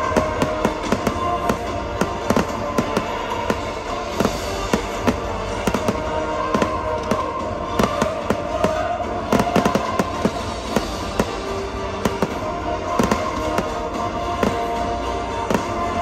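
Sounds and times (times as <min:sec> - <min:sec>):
fireworks bangs and crackles: 0:00.0 - 0:16.0
music with long held notes: 0:00.0 - 0:16.0.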